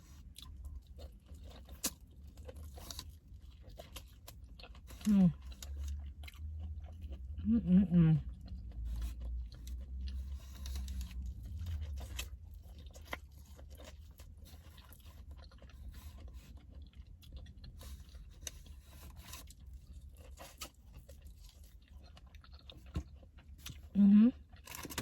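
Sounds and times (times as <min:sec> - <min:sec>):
crisp crunching and chewing: 0:00.0 - 0:07.5, 0:08.2 - 0:25.0.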